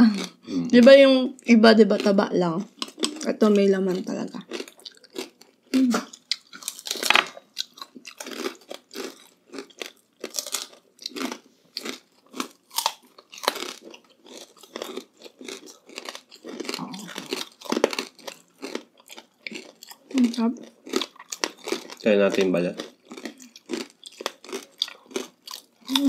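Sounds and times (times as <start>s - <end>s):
crunching and chewing crispy food: 0.0s - 26.0s.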